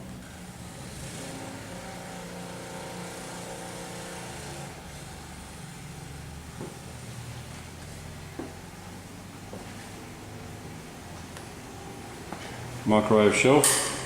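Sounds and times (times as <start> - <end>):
garage door opener motor hum: 0.0 - 14.0.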